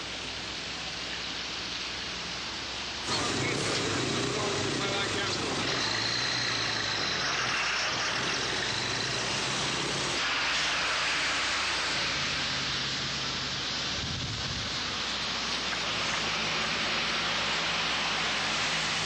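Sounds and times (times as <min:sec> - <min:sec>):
steady hiss: 0:00.0 - 0:19.0
low engine drone: 0:02.3 - 0:19.0
road vehicles driving by: 0:03.0 - 0:19.0.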